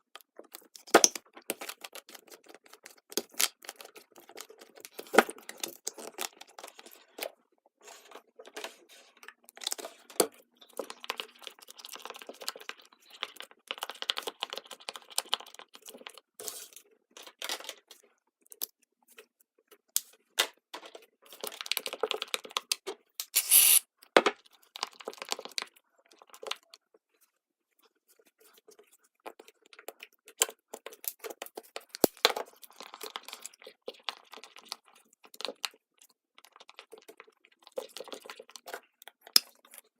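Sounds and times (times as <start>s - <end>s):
hands mixing slime: 0.0s - 39.9s.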